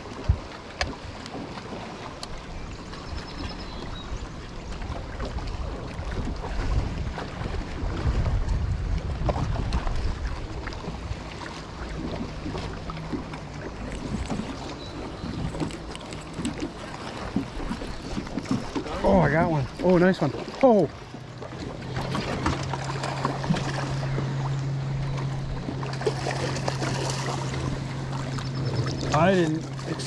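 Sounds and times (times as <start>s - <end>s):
wind buffeting microphone: 1.6s - 30.0s.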